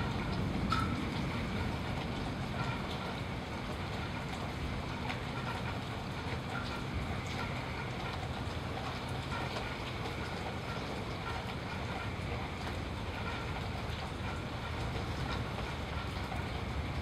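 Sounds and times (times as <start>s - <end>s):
continuous low rumble: 0.0s - 17.0s
steady rain: 0.0s - 17.0s.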